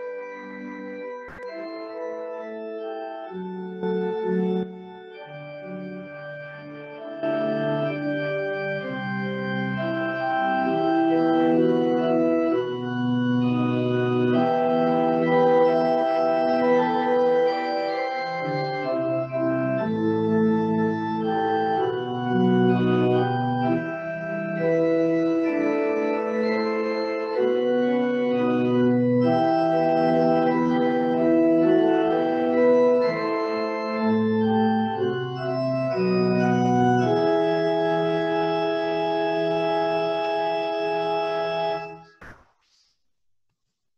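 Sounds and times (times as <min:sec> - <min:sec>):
organ playing sustained chords: 0:00.0 - 0:42.1.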